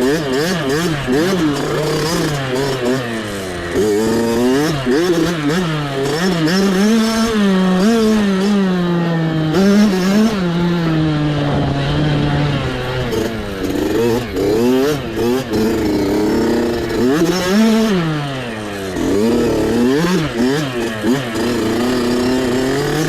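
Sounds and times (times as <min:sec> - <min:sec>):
mini bike engine revving: 0:00.0 - 0:23.0.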